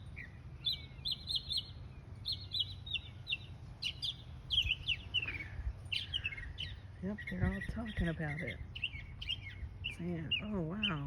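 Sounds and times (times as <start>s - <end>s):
low steady rumble: 0.0s - 11.0s
small songbirds chirping: 0.0s - 11.0s.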